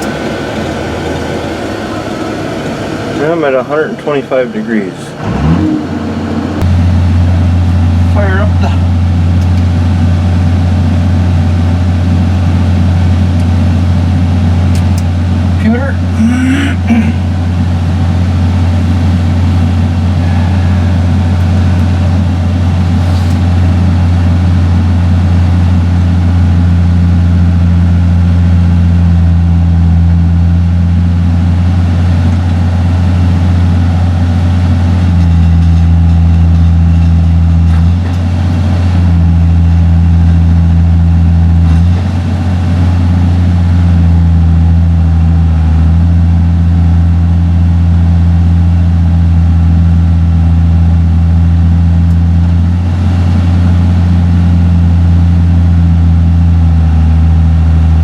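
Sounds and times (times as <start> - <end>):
diesel engine running: 0.0 - 58.0
high-pitched hum: 0.0 - 58.0.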